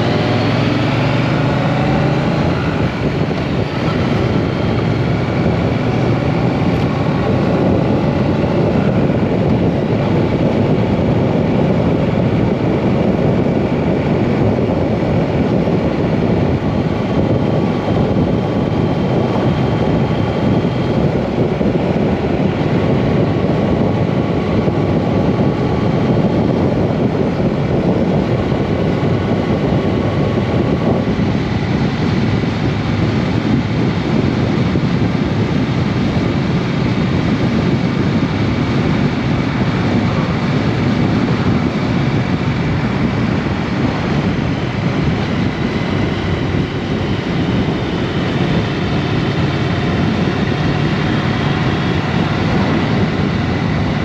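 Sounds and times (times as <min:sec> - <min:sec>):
motorcycle engine: 0:00.0 - 0:54.0
wind rush on microphone: 0:00.0 - 0:54.0.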